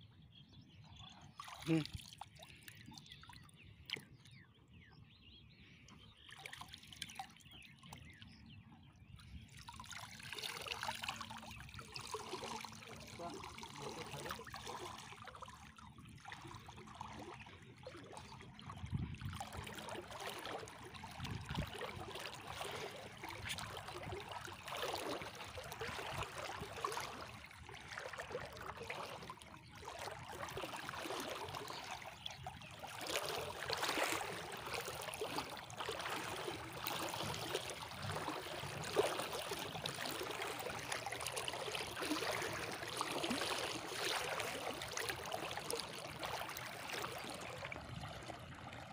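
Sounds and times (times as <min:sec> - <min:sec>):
wading splashes: 0:01.3 - 0:04.4, 0:06.2 - 0:08.2, 0:09.3 - 0:48.9
water splashing and dripping: 0:09.6 - 0:48.9.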